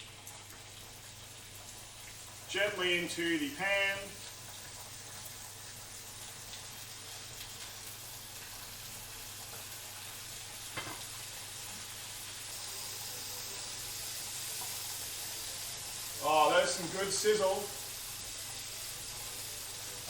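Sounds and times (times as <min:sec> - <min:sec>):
steaks sizzling in hot oil: 0:00.0 - 0:20.0.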